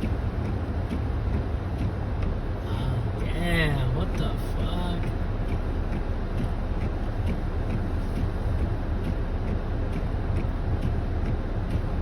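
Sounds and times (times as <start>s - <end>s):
car engine and tyre rumble: 0.0s - 12.0s
faint regular ticking: 0.0s - 12.0s.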